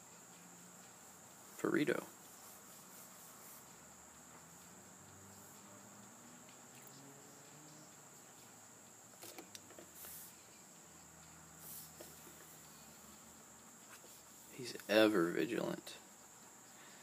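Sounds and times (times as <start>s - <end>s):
faint high-pitched hiss: 0.0s - 17.0s.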